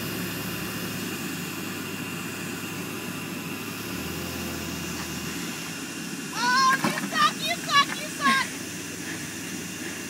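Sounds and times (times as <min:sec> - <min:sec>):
van engine and tyre rumble: 0:00.0 - 0:10.0.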